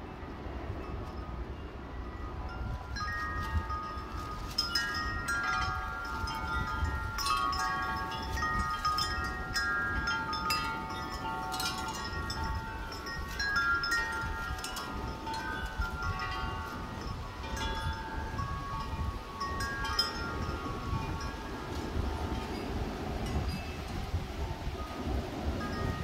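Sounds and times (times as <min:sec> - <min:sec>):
low wind rumble: 0:00.0 - 0:26.0
wind chimes ringing: 0:00.1 - 0:26.0.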